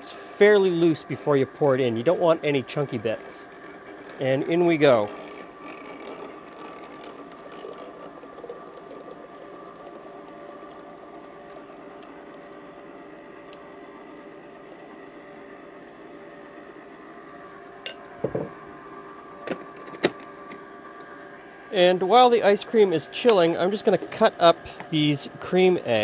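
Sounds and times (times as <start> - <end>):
ice cream maker humming: 0.0 - 26.0.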